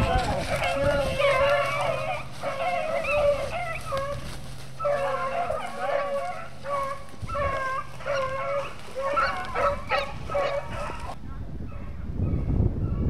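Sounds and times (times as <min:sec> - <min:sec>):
dogs baying and yelping: 0:00.0 - 0:11.2.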